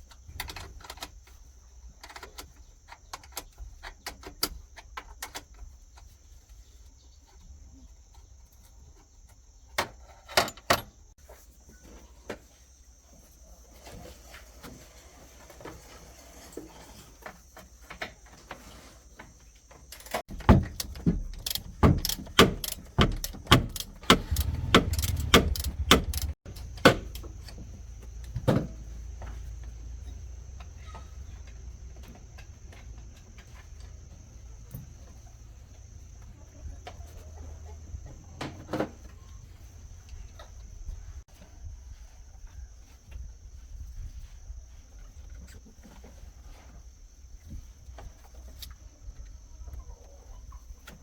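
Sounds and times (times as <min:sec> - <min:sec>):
crickets chirping: 0:00.0 - 0:49.6.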